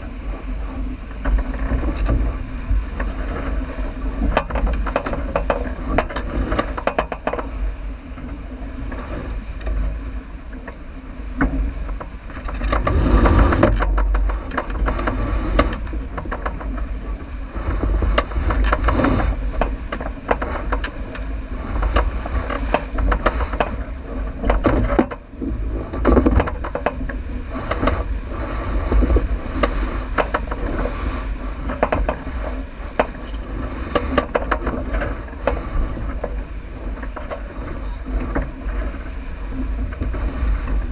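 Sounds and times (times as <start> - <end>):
water rushing along hull: 0.0 - 40.9
wind buffeting microphone: 0.0 - 40.9
small knocks and clicks: 1.1 - 3.6, 4.2 - 7.6, 11.4 - 28.1, 28.8 - 39.1.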